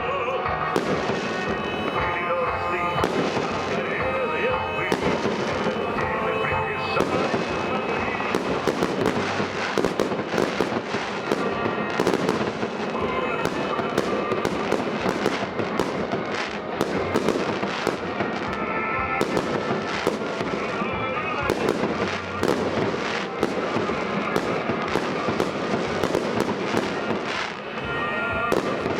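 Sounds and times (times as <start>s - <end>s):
fireworks bangs and crackling: 0.0s - 28.9s.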